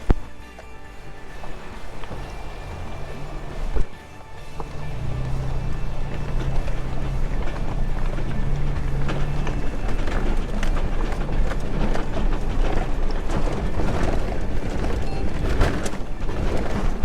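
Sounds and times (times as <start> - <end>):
vehicle driving over stony ground: 0.8 - 17.0
knocks and rattles: 1.0 - 17.0.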